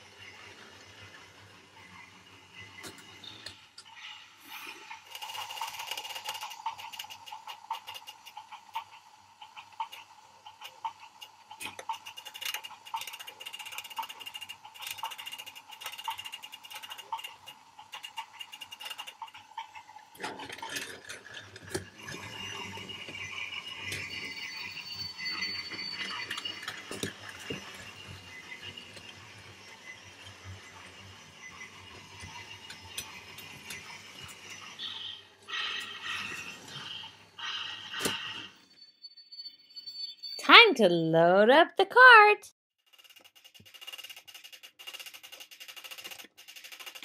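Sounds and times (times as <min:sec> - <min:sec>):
toy train wheels clicking on track: 0:00.0 - 0:38.6, 0:42.9 - 0:47.0.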